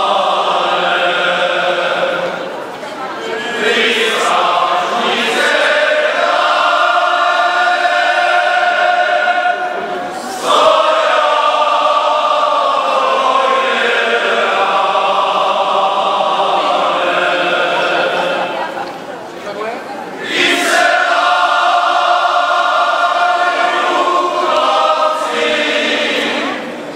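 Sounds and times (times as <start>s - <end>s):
men's choir singing: 0.0s - 19.2s, 20.1s - 26.9s.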